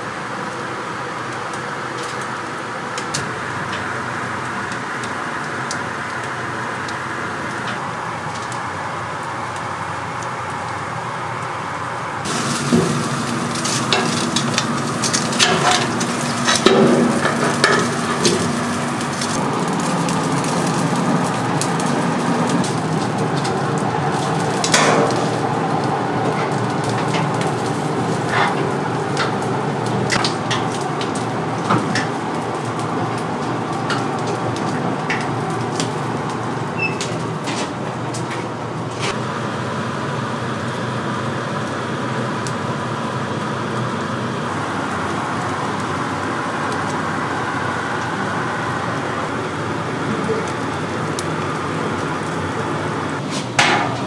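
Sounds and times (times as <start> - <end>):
food sizzling and crackling: 0.0 - 10.6, 12.2 - 54.0
steady cooking hiss: 0.0 - 54.0.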